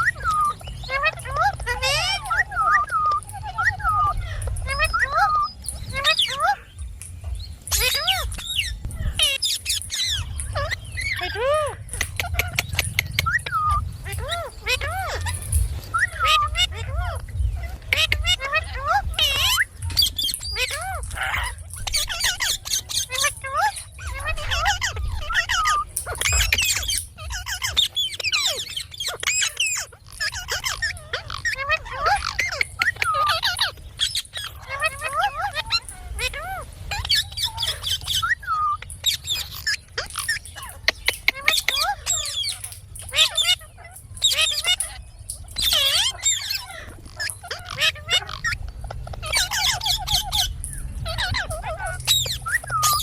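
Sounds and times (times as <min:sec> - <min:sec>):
parrot chattering: 0:00.0 - 0:06.9, 0:07.6 - 0:53.0.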